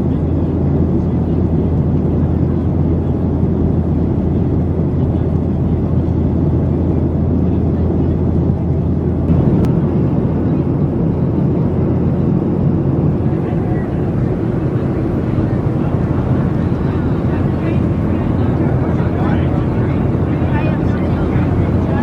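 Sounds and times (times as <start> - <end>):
jet engine cabin rumble: 0.0 - 22.0.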